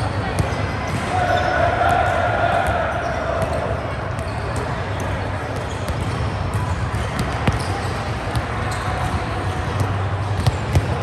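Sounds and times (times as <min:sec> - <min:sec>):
faint distant voices: 0:00.0 - 0:11.0.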